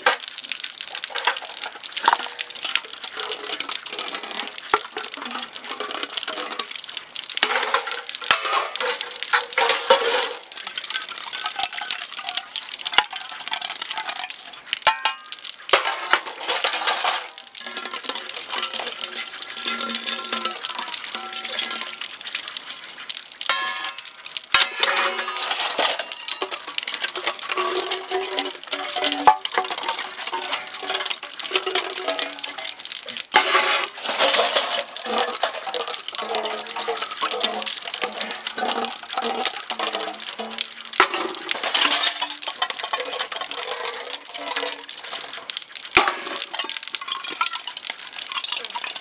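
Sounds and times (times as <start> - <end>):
dishes and utensils clattering: 1.1 - 6.7, 7.4 - 22.0, 23.5 - 32.7, 33.4 - 45.4, 46.0 - 49.0.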